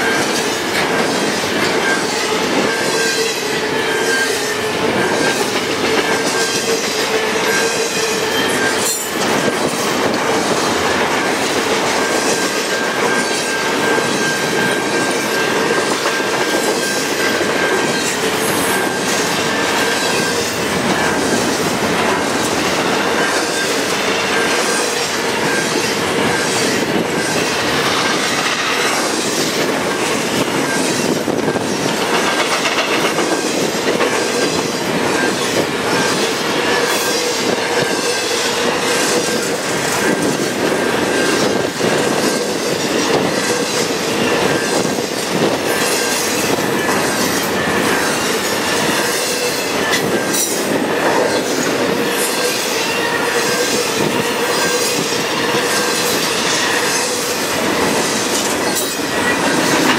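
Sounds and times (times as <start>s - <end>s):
steel wheels on rail: 0.0s - 59.9s.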